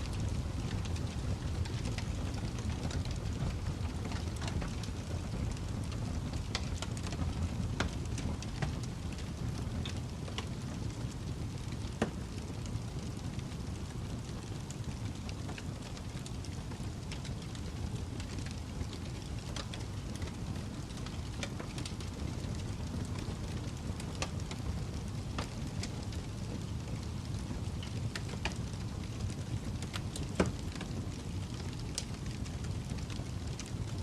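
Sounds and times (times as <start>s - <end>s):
fire pops and snaps: 0.0s - 34.0s
low rumble of flames: 0.0s - 34.0s.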